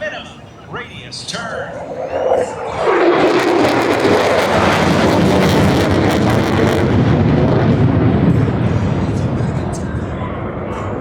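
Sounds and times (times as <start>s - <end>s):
jet aircraft roaring past: 0.0s - 11.0s.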